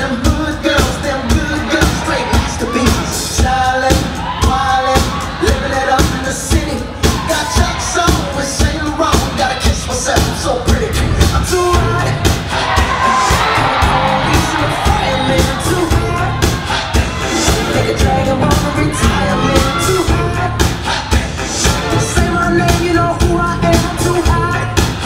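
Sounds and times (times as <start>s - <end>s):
dance music with sung vocals: 0.0s - 25.0s.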